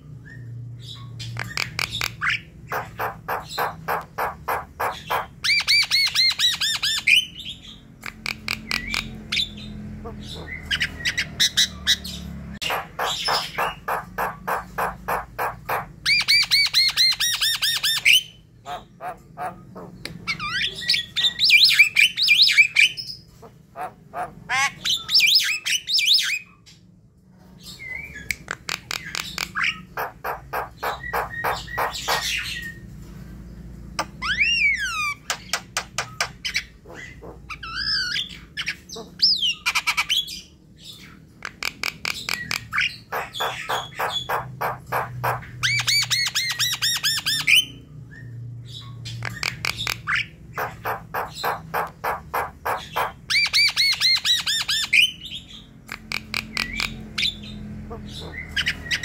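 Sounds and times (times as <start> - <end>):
myna bird singing: 0.0 - 59.0.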